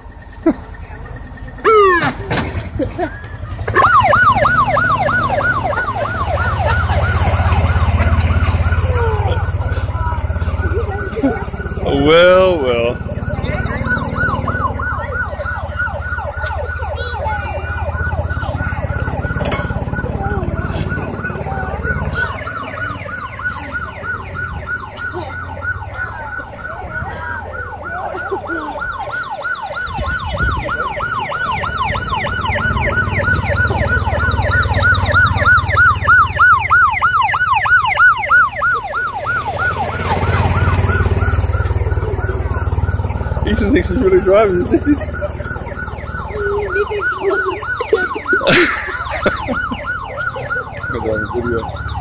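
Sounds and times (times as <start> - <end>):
toy siren yelping: 1.6 - 2.3, 3.0 - 52.0.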